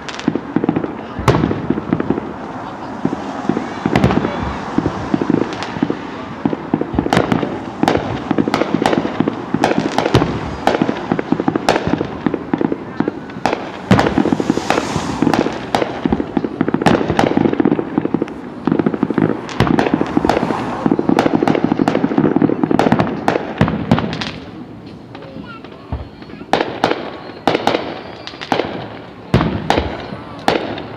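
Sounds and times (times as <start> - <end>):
continuous rumble: 0.0 - 30.9
fireworks bangs and crackles: 0.0 - 30.9.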